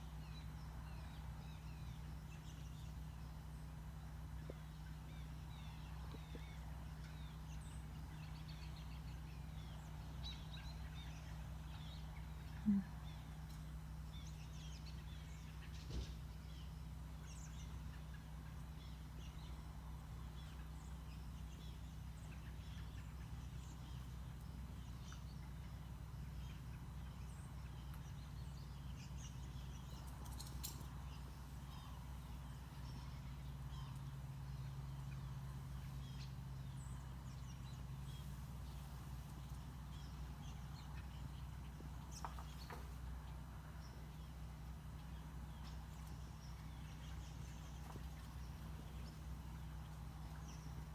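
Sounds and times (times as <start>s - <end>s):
flock of birds chirping: 0.0s - 50.9s
steady low hum: 0.0s - 50.9s.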